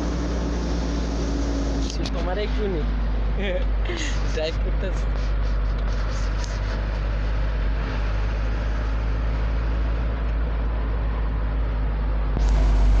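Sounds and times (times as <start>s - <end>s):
truck engine drone: 0.0s - 13.0s
tyre and road noise: 0.0s - 13.0s.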